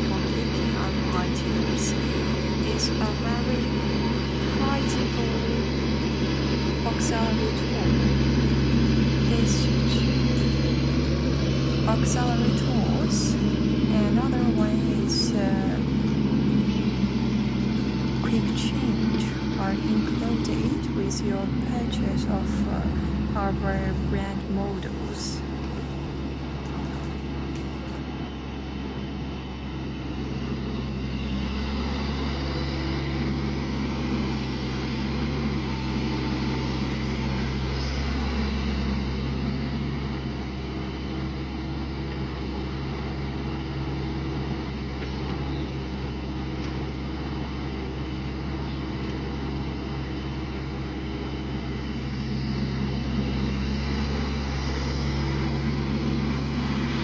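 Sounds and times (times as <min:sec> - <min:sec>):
small excavator engine running: 0:00.0 - 0:57.0.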